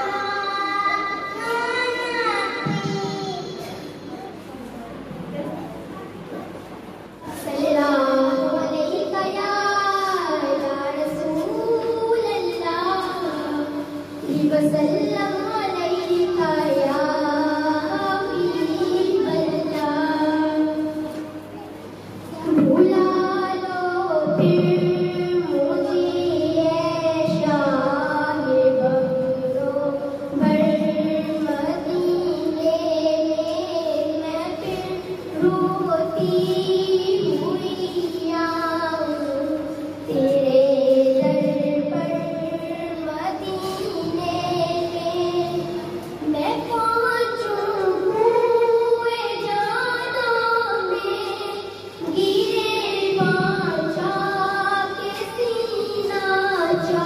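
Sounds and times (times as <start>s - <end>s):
girl singing into a microphone: 0.0s - 4.5s, 7.2s - 57.0s.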